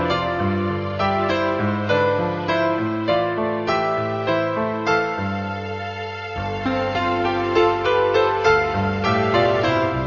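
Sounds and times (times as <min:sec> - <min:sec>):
piano background music: 0:00.0 - 0:10.0.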